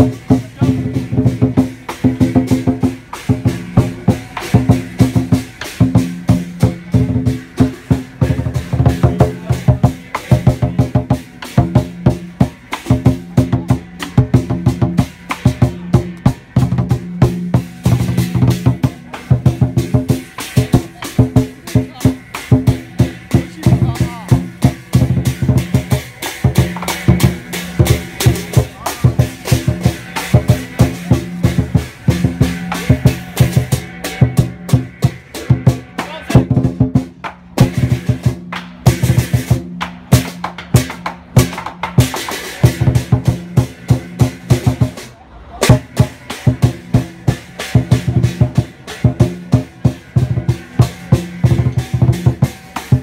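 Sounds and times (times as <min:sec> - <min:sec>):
hand cymbals clashing: 0:00.0 - 0:53.0
large drum beaten fast: 0:00.0 - 0:53.0.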